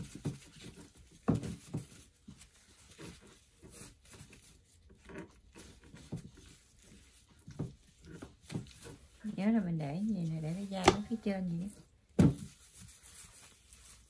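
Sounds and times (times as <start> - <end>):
gloved hands handling raw chicken: 0.0 - 14.0.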